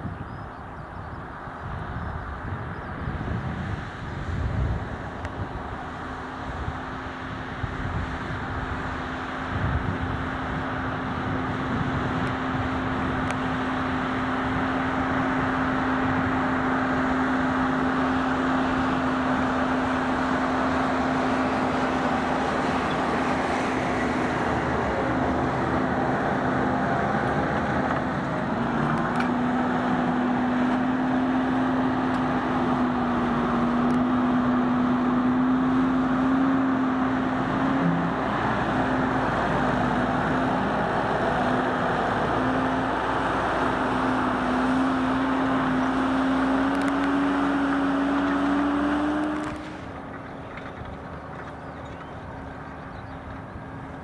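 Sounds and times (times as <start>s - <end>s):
tractor engine under load: 2.3s - 54.0s.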